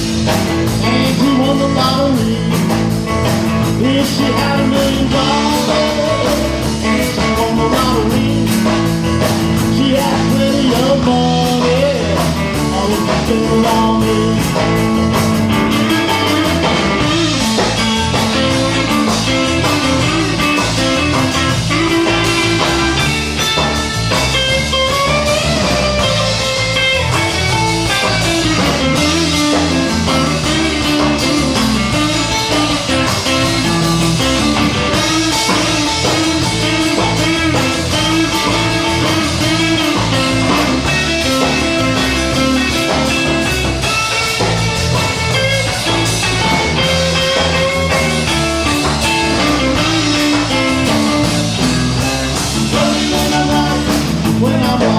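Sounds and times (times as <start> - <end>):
drum kit: 0.0 - 54.9
lead guitar: 0.0 - 54.9.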